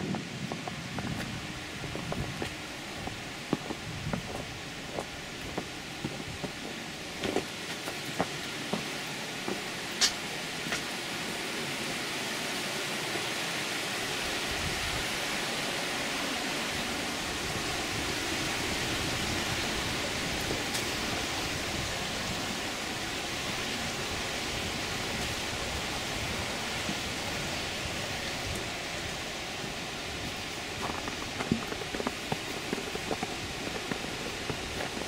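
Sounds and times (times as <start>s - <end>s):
steady rushing outdoor noise: 0.0s - 35.0s.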